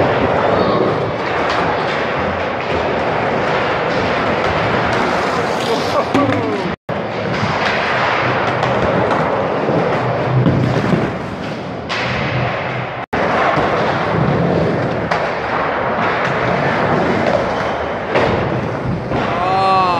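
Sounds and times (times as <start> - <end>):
skateboard wheels rolling: 0.0 - 19.7
skateboards thudding on ramps: 0.0 - 19.9.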